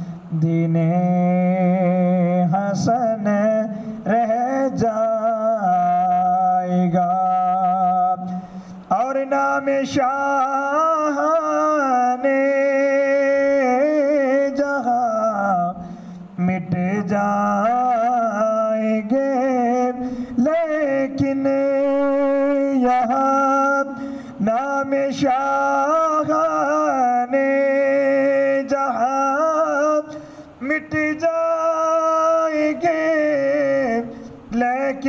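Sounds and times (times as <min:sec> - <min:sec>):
man singing into a microphone: 0:00.0 - 0:35.0.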